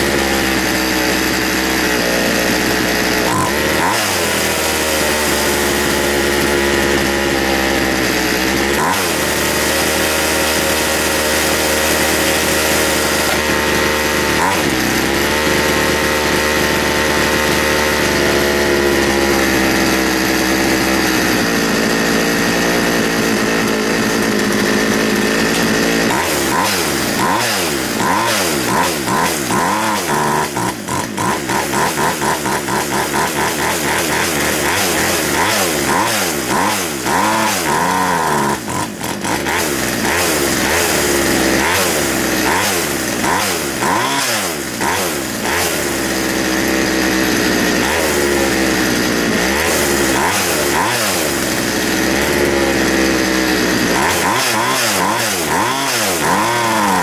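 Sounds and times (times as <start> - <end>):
chainsaw engine revving: 0.0 - 57.0.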